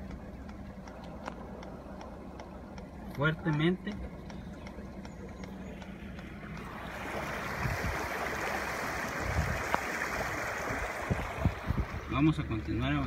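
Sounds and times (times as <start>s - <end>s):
floodwater rushing and splashing: 0.0s - 13.0s
low car engine hum: 0.0s - 13.0s.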